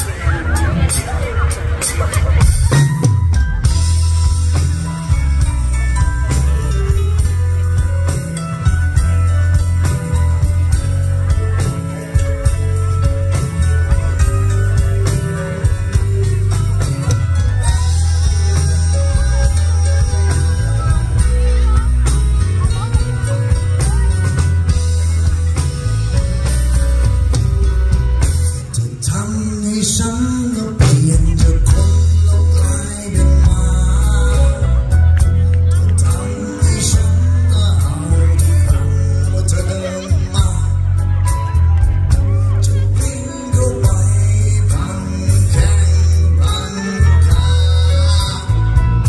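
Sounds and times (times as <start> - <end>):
drum kit beat: 0.0 - 49.0
heavy bass: 0.0 - 49.0
keyboard: 0.0 - 49.0.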